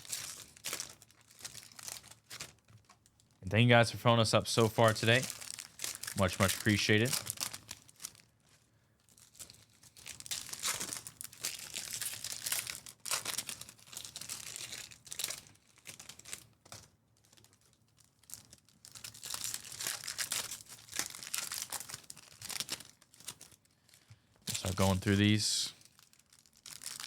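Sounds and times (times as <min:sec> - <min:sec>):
card pack wrappers crinkling: 0:00.0 - 0:27.0.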